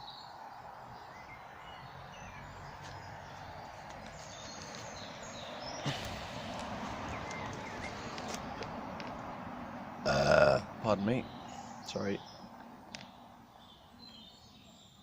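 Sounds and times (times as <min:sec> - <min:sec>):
small birds chirping: 0:00.0 - 0:15.0
steady outdoor background rush: 0:00.0 - 0:15.0.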